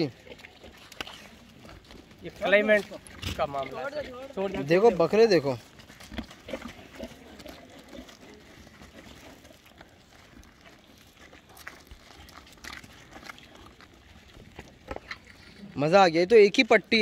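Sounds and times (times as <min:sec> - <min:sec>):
shuffling on stony dirt: 0:00.0 - 0:17.0.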